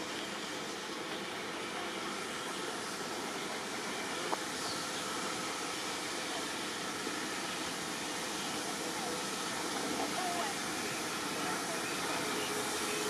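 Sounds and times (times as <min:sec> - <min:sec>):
train engine idling: 0:00.0 - 0:13.0.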